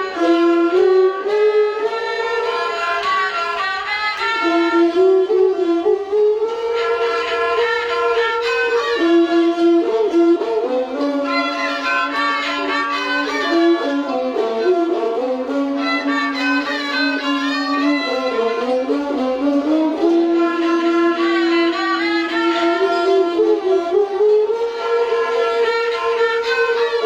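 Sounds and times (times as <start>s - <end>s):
bowed string instruments melody: 0.0s - 27.0s.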